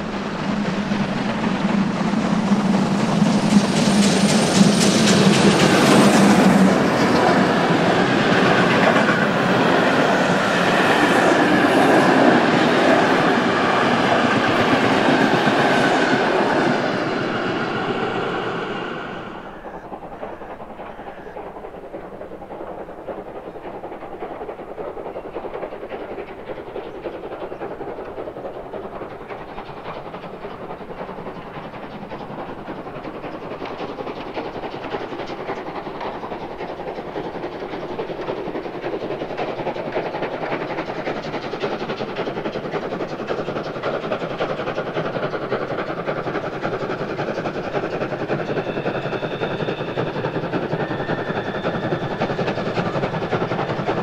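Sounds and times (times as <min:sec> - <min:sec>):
steam locomotive exhaust: 0:00.0 - 0:54.0.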